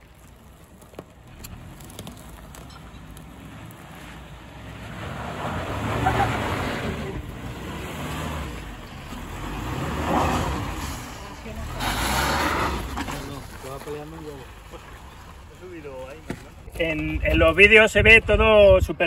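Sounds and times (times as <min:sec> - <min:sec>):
tyres scrabbling on loose earth: 0:00.0 - 0:06.6, 0:07.3 - 0:19.0
car engine pulling uphill: 0:00.0 - 0:19.0.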